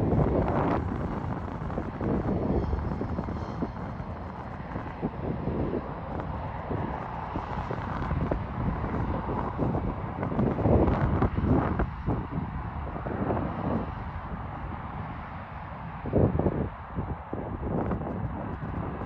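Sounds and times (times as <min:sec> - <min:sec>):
jet engine rumble with high whine: 0:00.0 - 0:19.0
wind buffeting microphone: 0:00.0 - 0:19.0.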